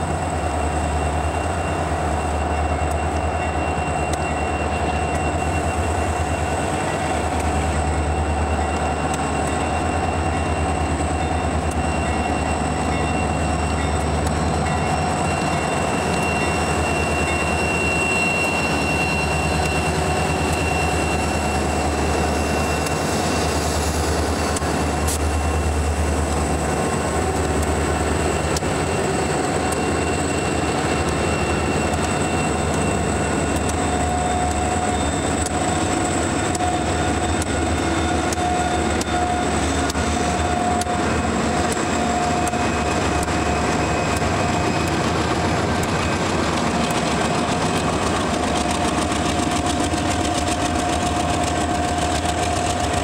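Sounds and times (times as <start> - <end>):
diesel locomotive engines running: 0.0 - 53.0.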